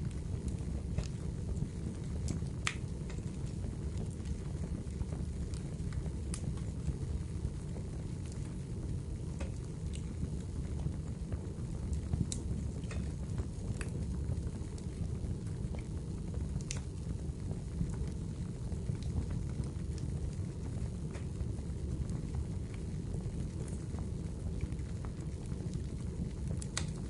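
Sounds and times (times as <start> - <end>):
fire pops and snaps: 0.0 - 27.0
flames rushing: 0.0 - 27.0.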